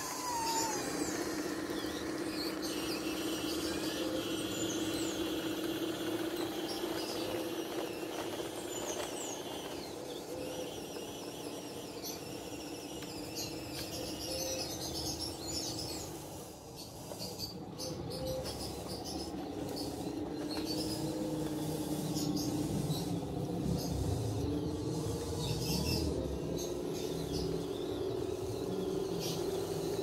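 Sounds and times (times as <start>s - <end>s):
birds chirping: 0.0s - 30.0s
electric motors whining: 0.0s - 30.0s.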